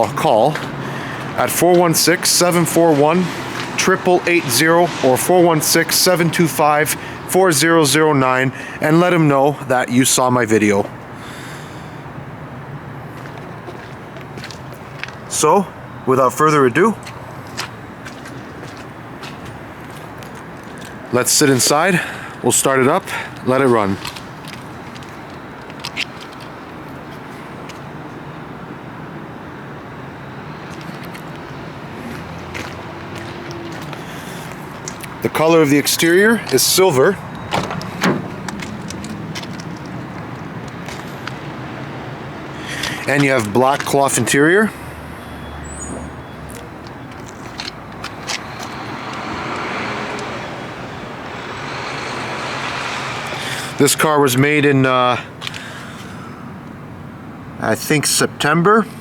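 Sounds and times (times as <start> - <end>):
passing vehicles: 0.0 - 59.0
road traffic hum: 0.0 - 59.0.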